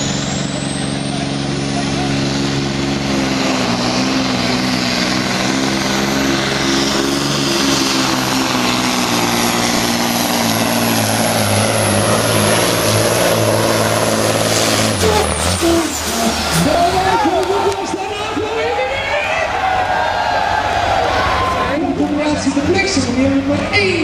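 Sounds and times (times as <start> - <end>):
truck diesel engine under load: 0.0 - 24.0.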